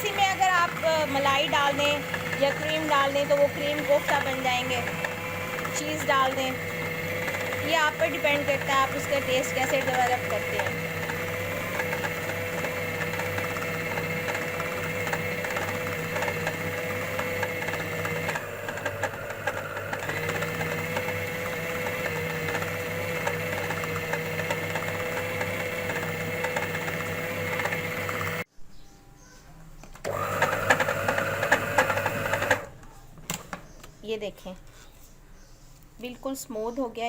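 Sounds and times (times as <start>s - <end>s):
electric grinder motor running: 0.0s - 28.5s, 30.1s - 32.7s.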